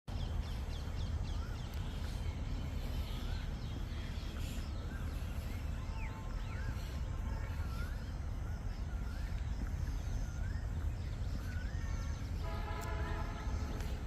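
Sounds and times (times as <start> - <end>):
birds chirping: 0.1 - 14.0.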